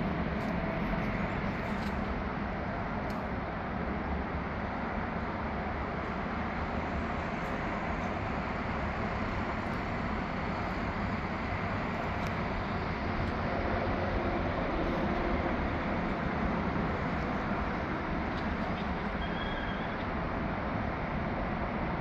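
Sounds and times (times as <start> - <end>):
outdoor background rumble: 0.0 - 22.0.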